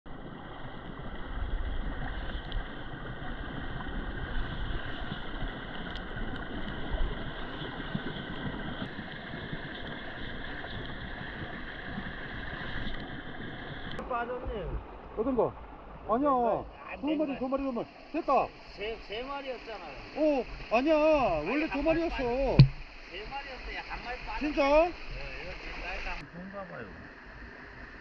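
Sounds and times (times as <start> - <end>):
stream water rushing: 0.1 - 28.0.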